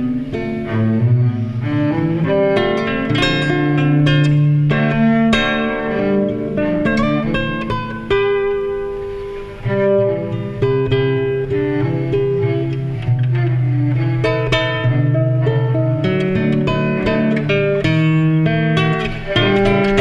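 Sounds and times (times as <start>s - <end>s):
plucked string notes ringing: 0.0s - 20.0s.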